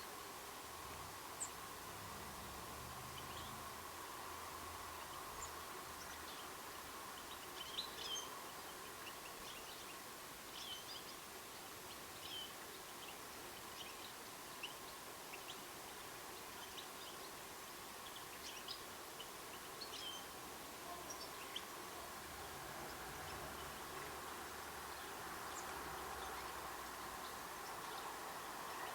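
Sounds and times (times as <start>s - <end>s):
steady background hiss: 0.0s - 28.9s
small birds chirping: 0.8s - 28.9s.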